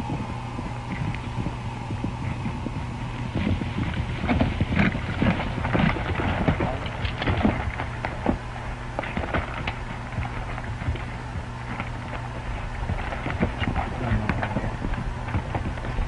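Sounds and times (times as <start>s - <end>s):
film soundtrack hum and hiss: 0.0s - 16.0s
horse hoofbeats on dirt: 0.0s - 16.0s.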